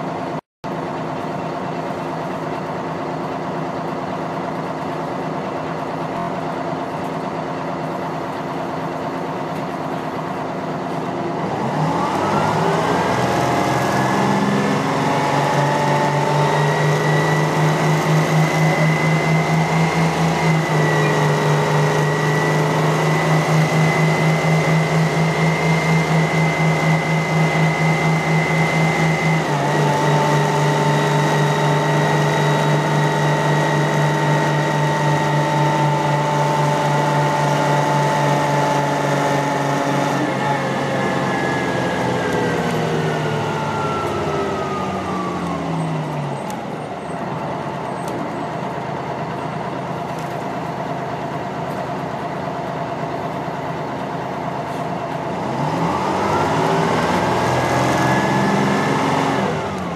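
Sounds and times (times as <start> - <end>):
bus diesel engine drone: 0.0 - 59.9
drivetrain whine: 0.0 - 59.9.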